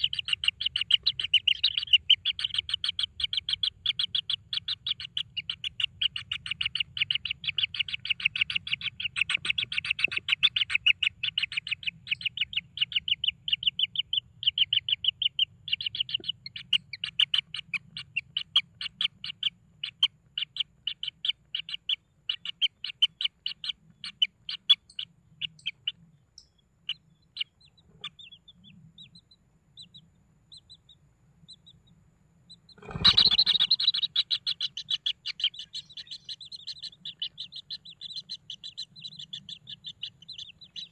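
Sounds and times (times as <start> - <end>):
chicks chirping: 0.0 - 40.9.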